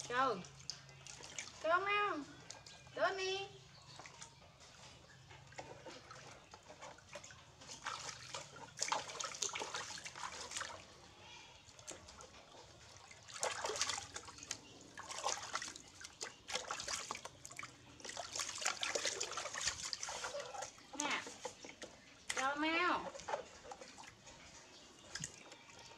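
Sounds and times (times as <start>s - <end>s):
water splashing in plastic basin: 0.0s - 2.8s, 3.8s - 25.9s.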